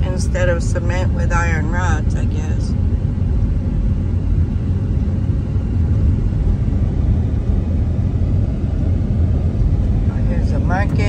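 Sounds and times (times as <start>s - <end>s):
car driving on unpaved road: 0.0s - 11.0s.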